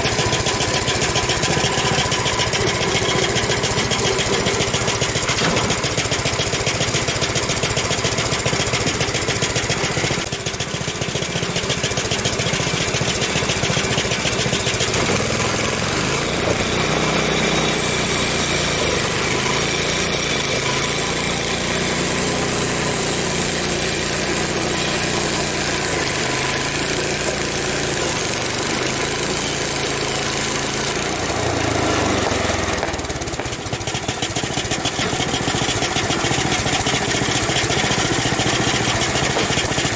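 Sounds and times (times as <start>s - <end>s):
band saw blade cutting log: 0.0s - 39.9s
sawmill engine running: 0.0s - 39.9s.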